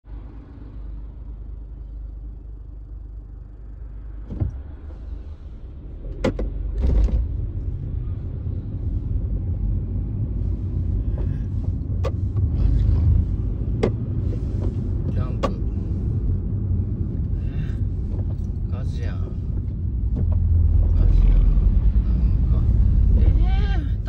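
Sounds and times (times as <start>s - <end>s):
car rumble from inside cabin: 0.0s - 24.0s.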